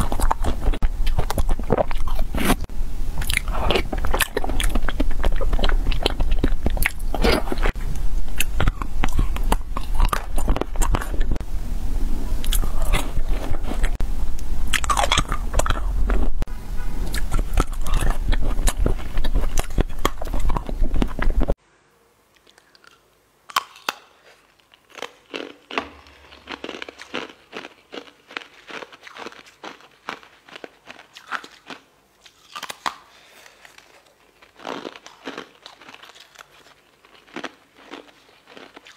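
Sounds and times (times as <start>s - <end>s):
biting and chewing candy: 0.0s - 11.4s, 12.4s - 14.0s, 14.7s - 21.6s, 22.4s - 38.9s.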